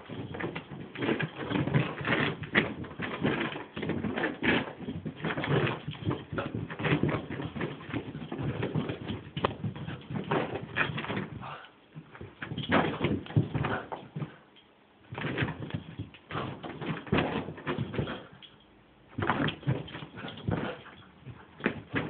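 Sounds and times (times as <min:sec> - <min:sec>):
dog paws thumping on carpet: 0:00.0 - 0:14.4, 0:15.0 - 0:22.0.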